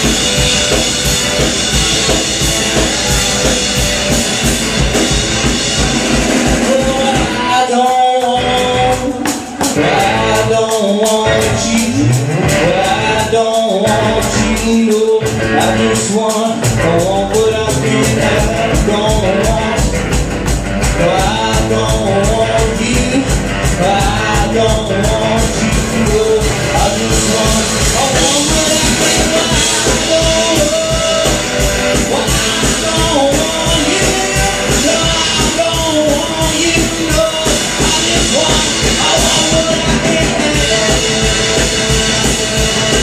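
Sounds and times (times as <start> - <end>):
drums keeping a steady beat: 0.0 - 43.0
live rock band playing: 0.0 - 43.0
wailing lead guitar line: 0.0 - 43.0.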